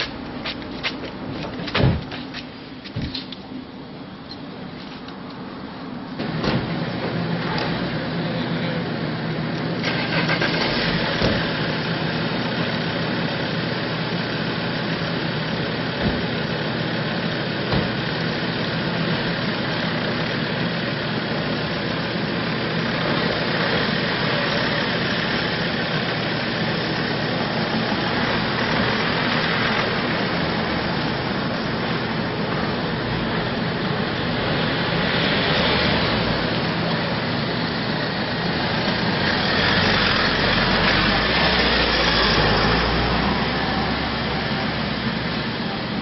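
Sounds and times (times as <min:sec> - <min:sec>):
vehicle engine running: 0:05.6 - 0:46.0.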